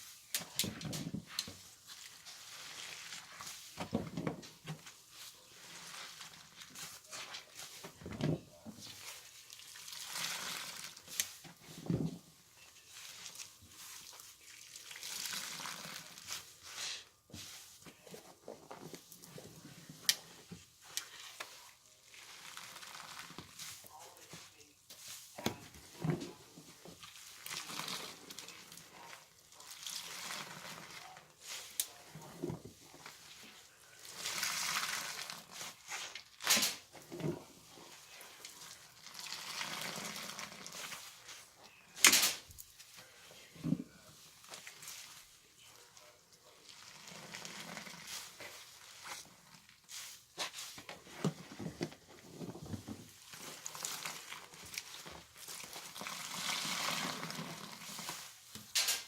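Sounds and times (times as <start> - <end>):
wet blanket squishing: 0.0 - 3.9, 4.8 - 41.8, 44.0 - 58.6
soapy sponge squelching: 0.0 - 58.8.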